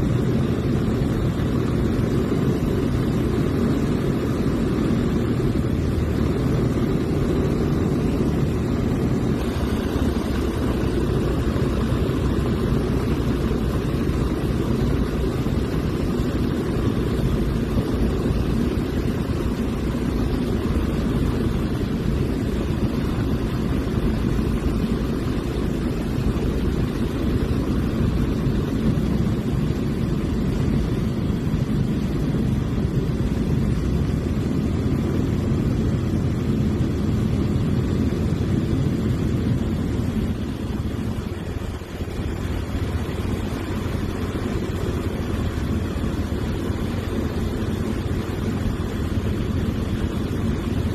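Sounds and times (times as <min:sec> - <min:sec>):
propeller airplane engine droning: 0:00.0 - 0:50.9
rushing air: 0:00.0 - 0:50.9.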